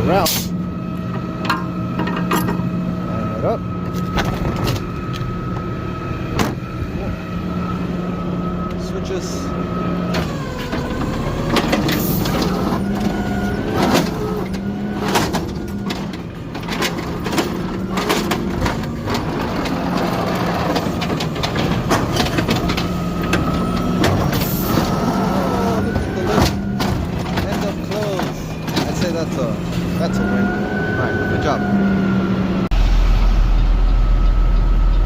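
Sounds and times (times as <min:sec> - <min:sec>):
truck engine and hydraulics whining: 0:00.0 - 0:35.0.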